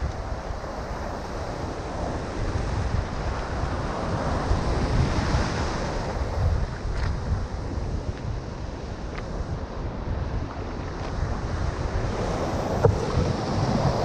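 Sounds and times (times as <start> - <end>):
sea waves: 0.0 - 14.0
wind buffeting microphone: 0.0 - 14.0.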